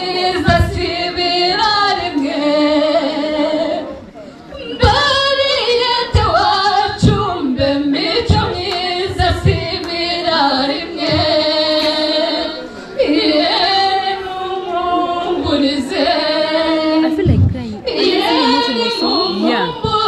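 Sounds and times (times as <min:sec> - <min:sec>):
women singing into microphones: 0:00.0 - 0:20.0.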